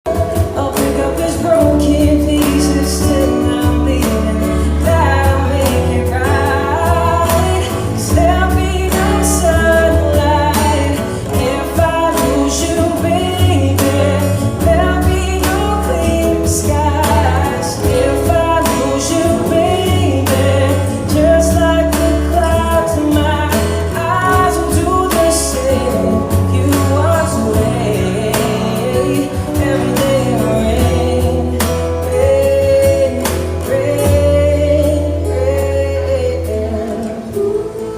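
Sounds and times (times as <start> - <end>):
song with sung melody and bass: 0.0 - 37.9.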